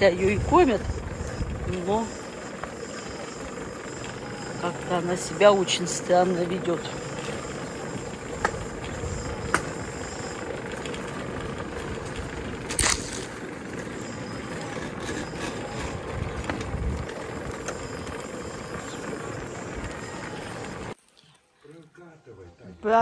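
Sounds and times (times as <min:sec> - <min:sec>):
electric scooter motor hum: 0:00.0 - 0:21.0.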